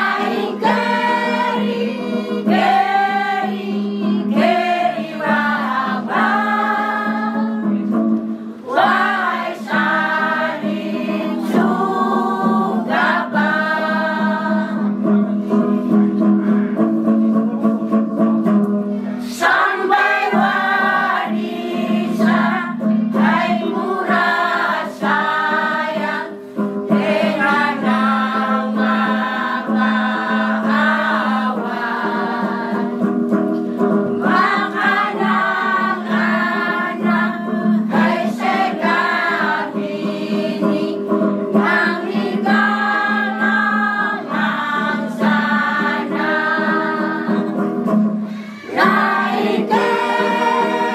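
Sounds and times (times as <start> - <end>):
choir singing a hymn: 0.0 - 15.9, 19.2 - 33.2, 33.8 - 47.9, 48.7 - 50.9.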